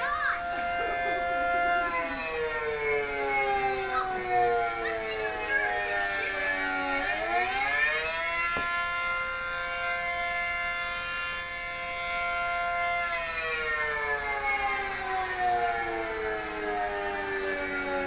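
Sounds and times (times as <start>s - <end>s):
warning siren wailing: 0.0s - 18.0s.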